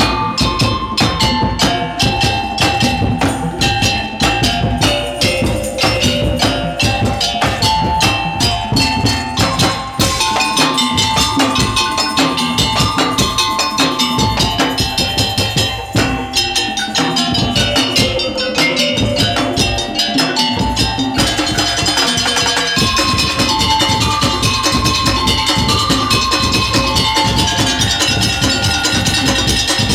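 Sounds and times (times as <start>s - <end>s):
percussion ensemble drumming: 0.0s - 29.9s
repeating melody line: 0.0s - 29.9s.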